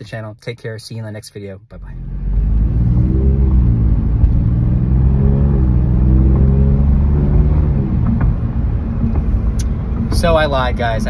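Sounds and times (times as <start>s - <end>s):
car engine from inside cabin: 1.8s - 11.0s.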